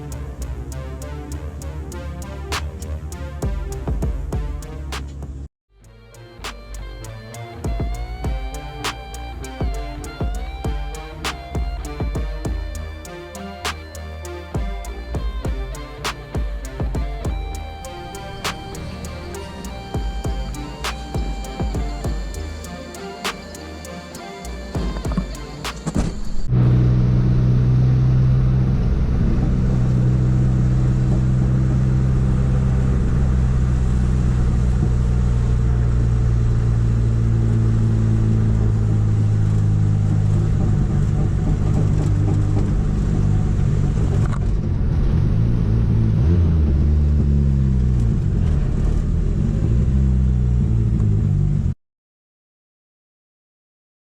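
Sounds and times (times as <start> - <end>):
car engine idling and revving: 0.0 - 51.8.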